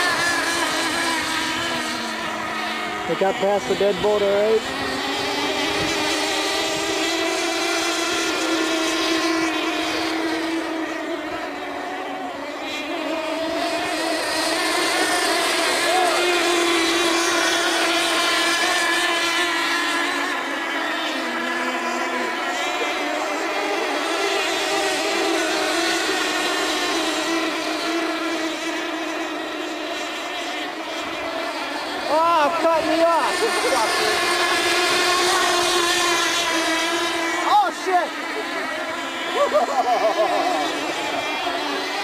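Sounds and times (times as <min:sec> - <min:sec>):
model boat engines whining: 0:00.0 - 0:42.0.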